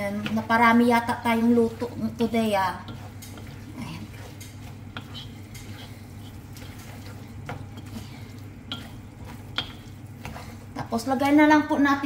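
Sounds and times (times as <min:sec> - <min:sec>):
spatula scraping steel wok: 0:00.0 - 0:11.5
steady low hum: 0:00.0 - 0:12.0.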